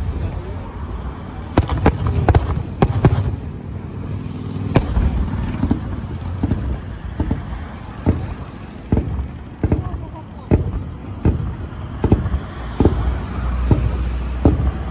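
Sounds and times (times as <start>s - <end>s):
firework shells bursting: 1.4s - 3.7s, 4.6s - 14.9s.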